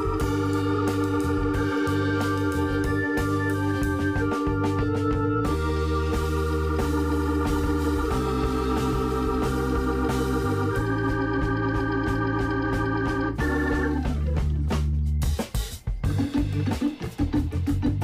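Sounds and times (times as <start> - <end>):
organ-like keyboard chords: 0.0 - 18.0
steady bass line: 0.0 - 18.0.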